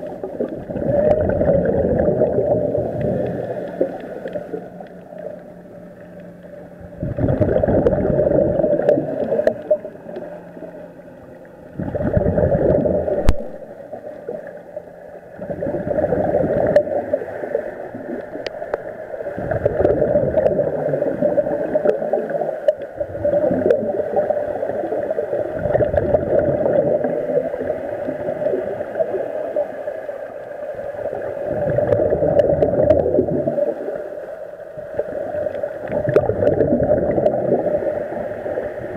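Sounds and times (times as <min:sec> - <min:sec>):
exhaled bubbles gurgling underwater: 0:00.0 - 0:38.9.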